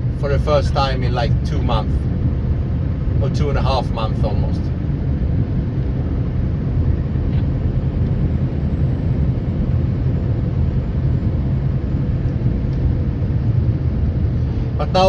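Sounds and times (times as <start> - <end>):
road noise: 0.0 - 15.0
truck engine rumble: 0.0 - 15.0.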